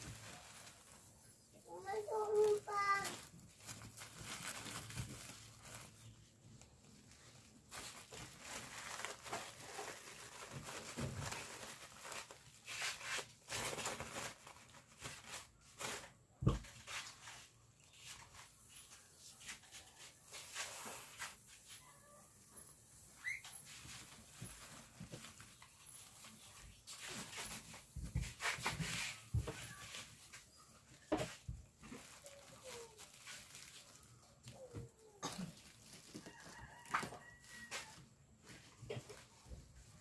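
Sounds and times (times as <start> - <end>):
wrapping material rustling: 0.0 - 21.9, 22.9 - 40.0.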